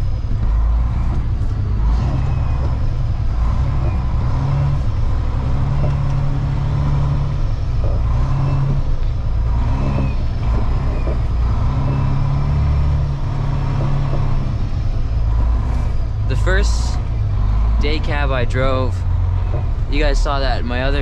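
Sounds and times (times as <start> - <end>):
truck diesel engine rumble: 0.0 - 21.0.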